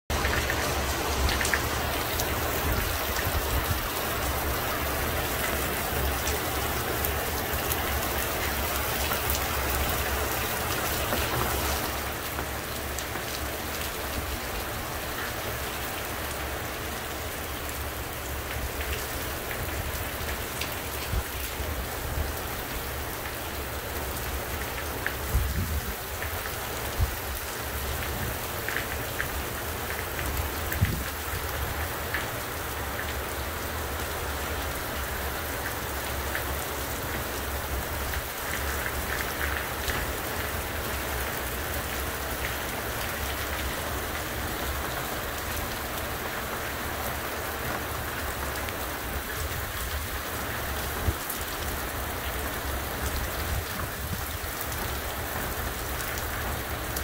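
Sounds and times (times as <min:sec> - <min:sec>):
rain falling steadily: 0:00.1 - 0:57.0
raindrops ticking on surfaces: 0:00.1 - 0:57.0.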